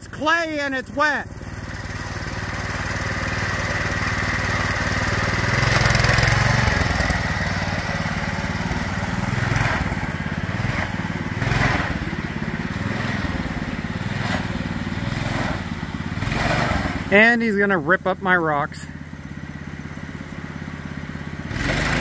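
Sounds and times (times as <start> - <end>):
go-kart engine revving: 0.0 - 22.0.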